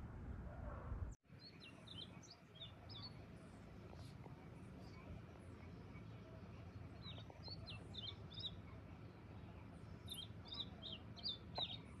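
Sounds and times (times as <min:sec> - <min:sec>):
songbird chirping: 0:01.2 - 0:12.0.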